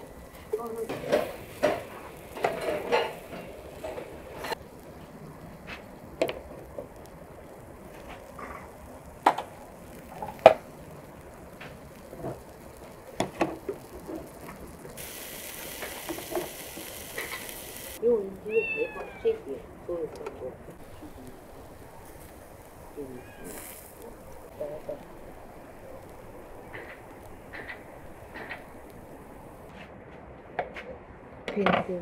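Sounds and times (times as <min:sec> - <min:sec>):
meat sizzling on a grill: 0:00.0 - 0:29.7.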